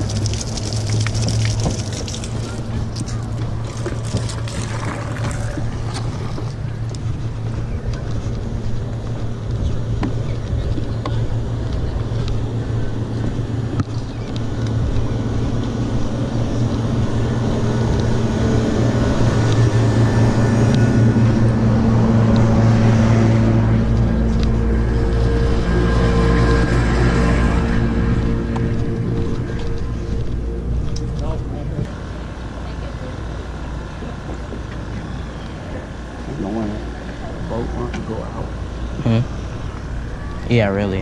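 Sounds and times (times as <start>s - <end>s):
engine humming: 0.0s - 41.0s.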